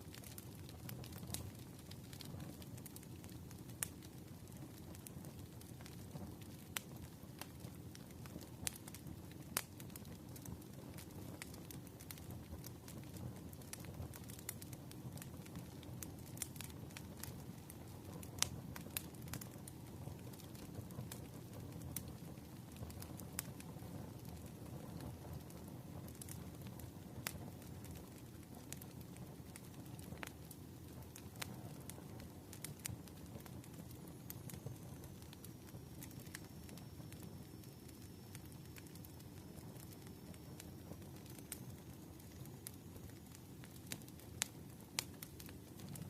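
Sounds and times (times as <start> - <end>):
fire crackling and popping: 0.0 - 46.0.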